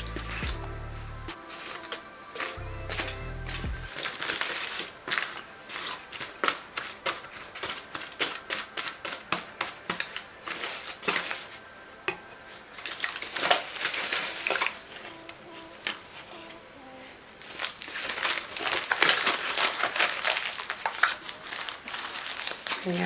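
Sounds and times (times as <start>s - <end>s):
aluminium foil crinkling: 1.3s - 23.0s.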